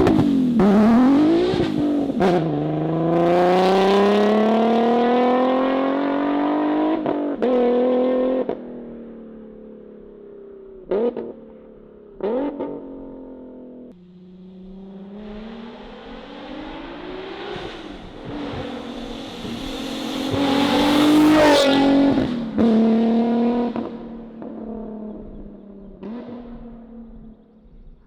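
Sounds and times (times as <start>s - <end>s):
car engine revving: 0.0s - 8.6s, 10.8s - 28.0s.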